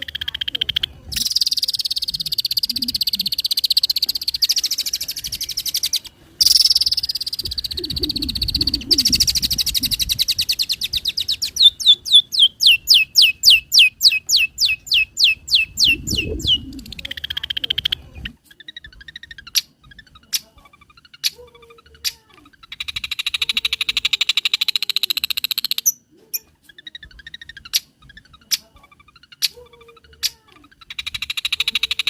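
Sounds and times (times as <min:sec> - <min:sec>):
shrike singing: 0:00.0 - 0:32.0.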